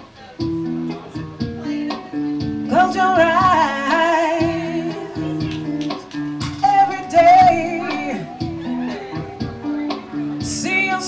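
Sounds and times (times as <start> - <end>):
electric guitar plucked notes: 0.4 - 11.0
person singing with vibrato: 0.4 - 11.0.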